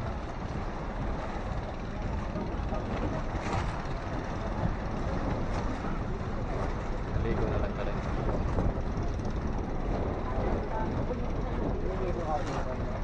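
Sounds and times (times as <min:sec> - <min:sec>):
boat engine rumble: 0:00.0 - 0:13.0
water washing along hull: 0:00.0 - 0:13.0
wind on microphone: 0:00.0 - 0:13.0.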